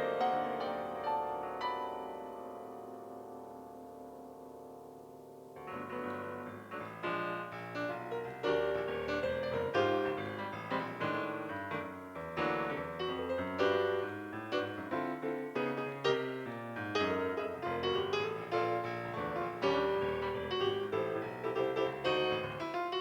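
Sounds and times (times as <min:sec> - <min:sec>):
piano ballad: 0:00.0 - 0:23.0.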